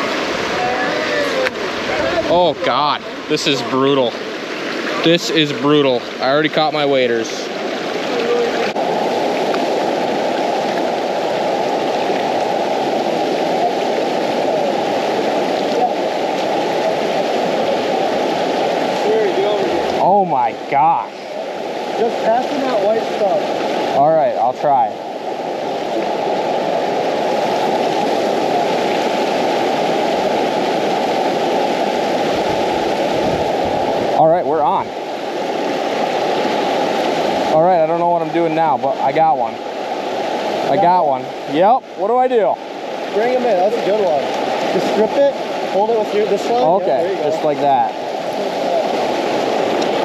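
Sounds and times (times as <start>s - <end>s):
river rushing over rocks: 0.0s - 50.0s.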